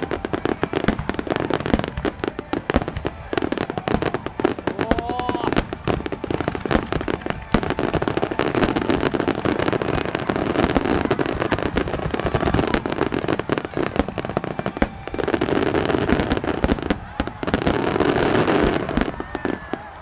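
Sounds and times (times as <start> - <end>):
crackle of firework stars: 0.0 - 20.0.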